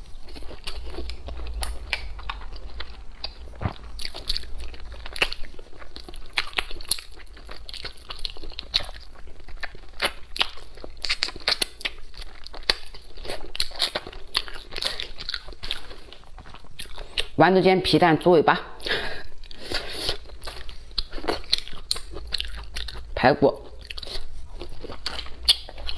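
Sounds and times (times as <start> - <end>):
person chewing food: 0.0 - 17.4, 18.8 - 25.9.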